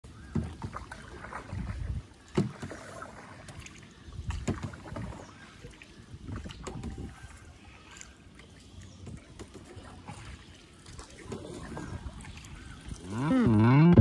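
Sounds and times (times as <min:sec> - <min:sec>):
kayak paddle splashing: 0:00.0 - 0:14.0
light wind: 0:00.0 - 0:14.0
water wash: 0:00.0 - 0:14.0.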